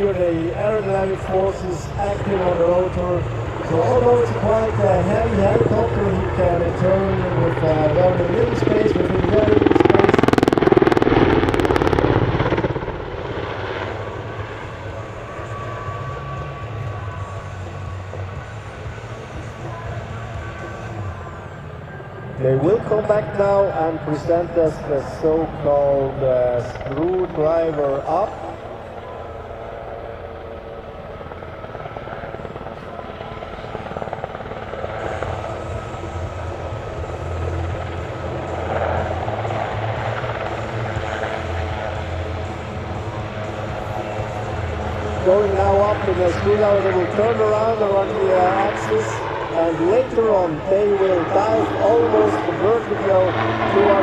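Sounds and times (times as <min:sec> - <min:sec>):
helicopter rotor chopping: 0:00.0 - 0:54.0.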